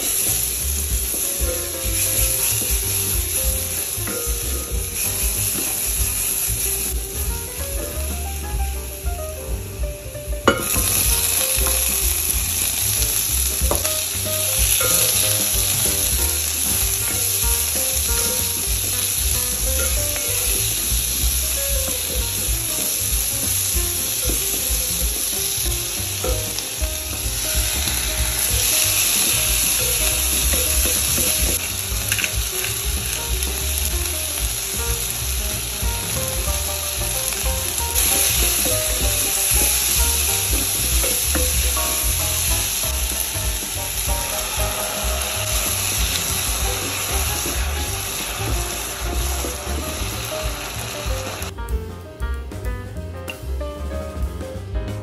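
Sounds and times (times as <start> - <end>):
tomatoes sizzling in hot oil: 0.0 - 51.5.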